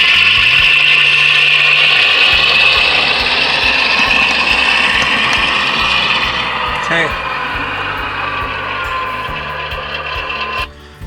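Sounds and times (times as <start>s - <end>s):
model train motor whining: 0.0s - 11.0s.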